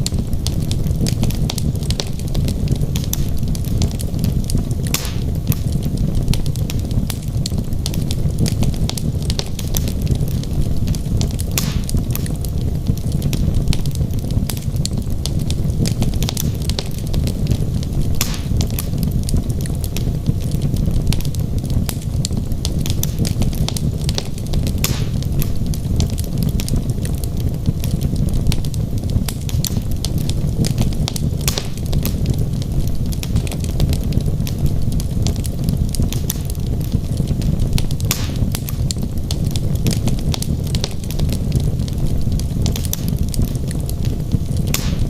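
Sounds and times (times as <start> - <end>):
logs crackling and popping: 0.0 - 45.0
low rumble of flames: 0.0 - 45.0.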